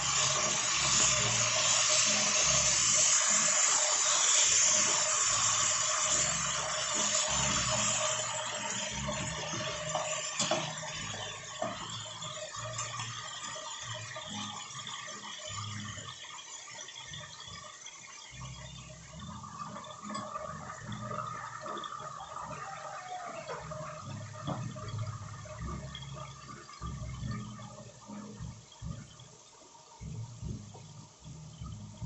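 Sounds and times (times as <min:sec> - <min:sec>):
meat sizzling in hot fat: 0:00.0 - 0:29.0.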